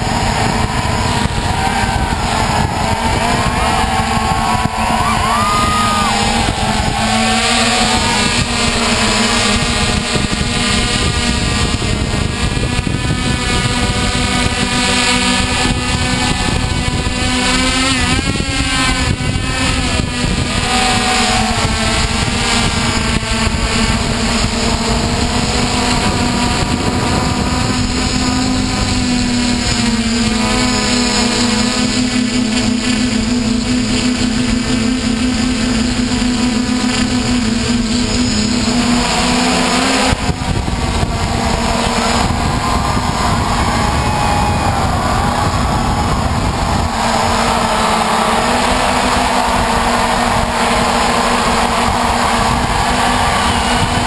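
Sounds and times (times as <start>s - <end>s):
drone motors whining: 0.0s - 54.0s
wind noise: 0.0s - 54.0s.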